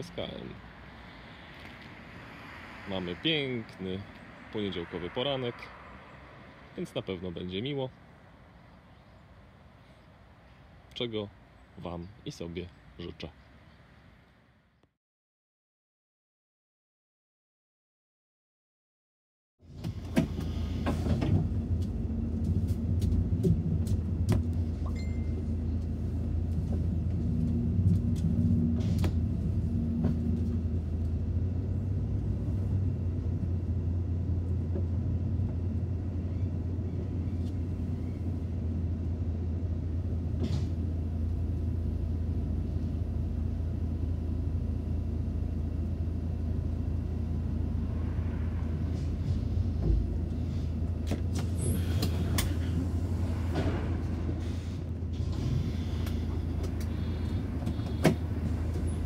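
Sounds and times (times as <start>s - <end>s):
bus engine and road rumble: 0.0s - 14.8s, 19.6s - 59.0s.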